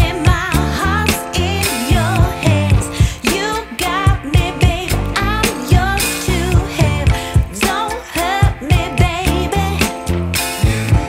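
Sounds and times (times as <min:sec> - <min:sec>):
background pop music: 0:00.0 - 0:11.0.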